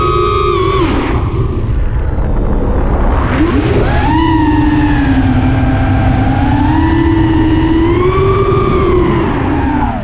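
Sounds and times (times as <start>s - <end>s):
drone motors whining: 0.0s - 10.0s
wind rumbling on microphone: 0.0s - 10.0s.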